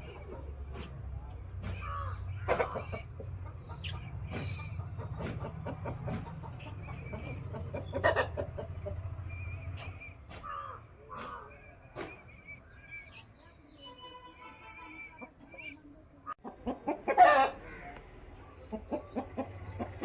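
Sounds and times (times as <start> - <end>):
chickens clucking: 0.0 - 13.3, 15.0 - 20.0.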